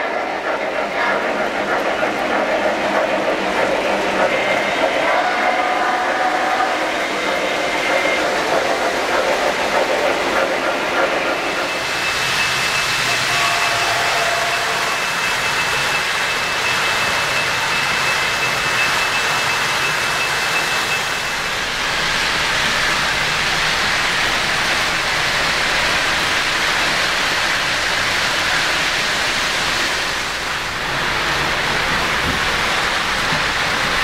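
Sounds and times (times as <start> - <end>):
thin high whine: 0.0 - 34.0.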